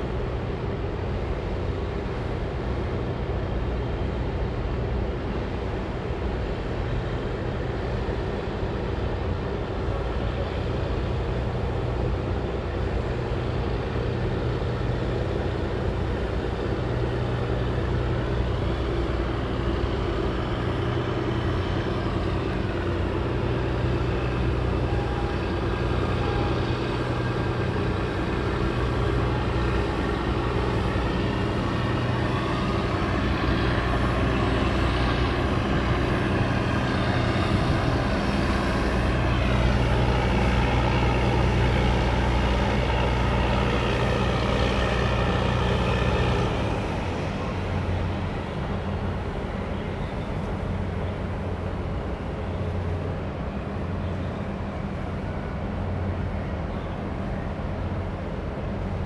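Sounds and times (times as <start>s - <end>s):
ship engine drone: 0.0s - 59.0s
water rushing along hull: 0.0s - 59.0s.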